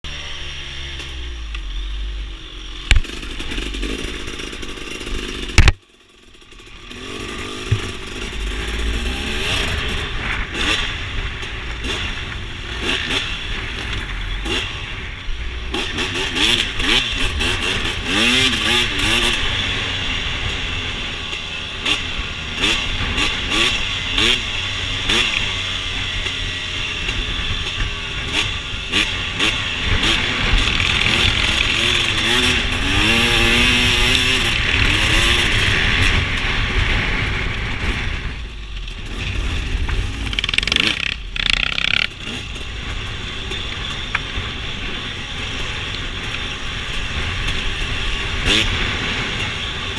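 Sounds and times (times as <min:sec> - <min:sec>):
dirt bike engine revving: 0:00.1 - 0:49.9.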